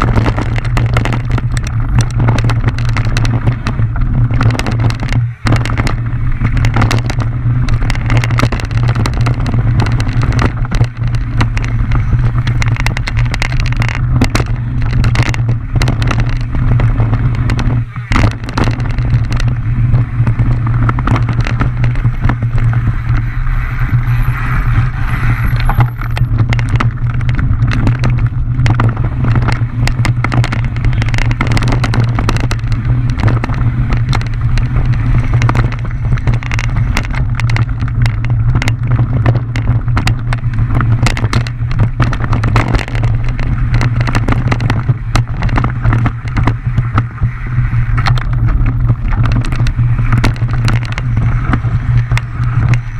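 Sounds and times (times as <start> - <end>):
bike clattering over rough ground: 0.0 - 52.9
bike rumbling downhill: 0.0 - 52.9.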